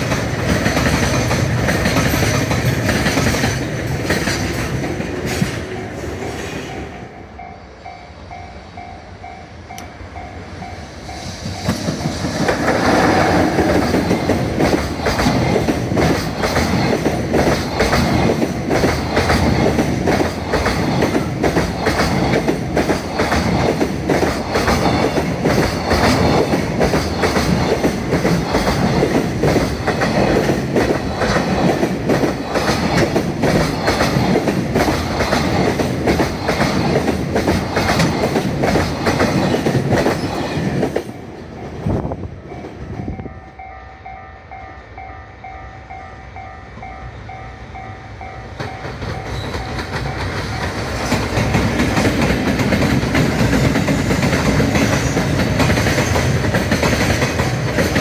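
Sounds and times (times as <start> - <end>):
train wheels clattering over rails: 0.0 - 6.9, 10.9 - 43.2, 48.2 - 58.0
train rumble: 0.0 - 58.0.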